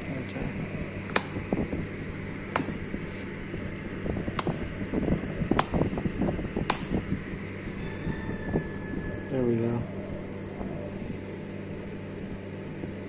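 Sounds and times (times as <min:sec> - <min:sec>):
steady fan hum: 0:00.0 - 0:13.0.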